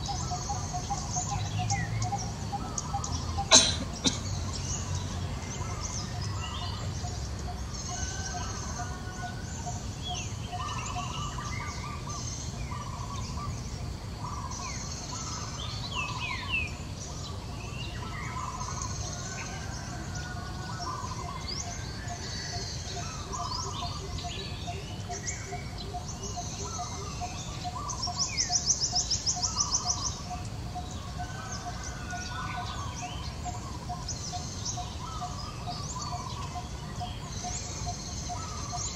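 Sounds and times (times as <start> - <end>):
wild birds chirping: 0.0 - 38.9.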